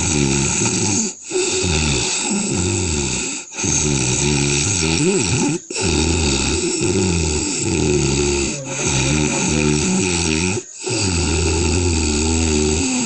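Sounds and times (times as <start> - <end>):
man snoring loudly: 0.0 - 13.0.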